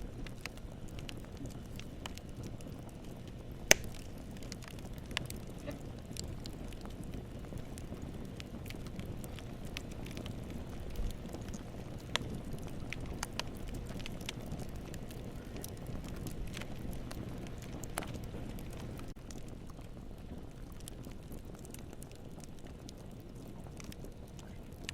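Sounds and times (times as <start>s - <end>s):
campfire crackling and popping: 0.0s - 24.9s.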